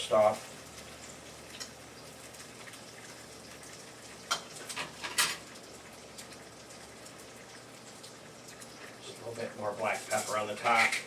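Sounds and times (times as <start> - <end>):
eggs sizzling in a pan: 0.0 - 11.0.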